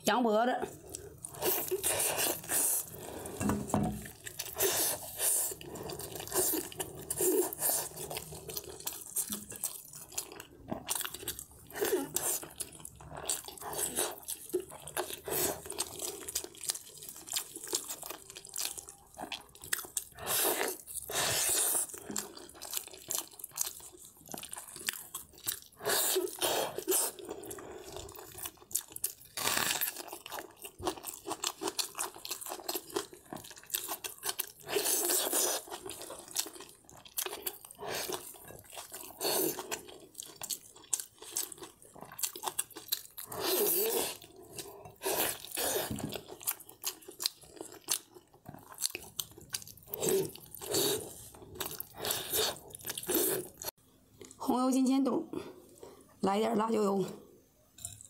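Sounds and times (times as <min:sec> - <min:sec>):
wet chewing and lip-smacking: 0:04.0 - 0:54.4.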